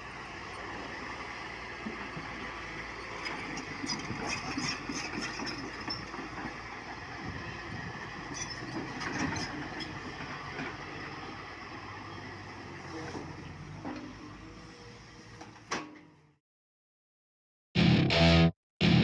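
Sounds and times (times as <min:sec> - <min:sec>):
excavator diesel engine under load: 0:00.0 - 0:15.7.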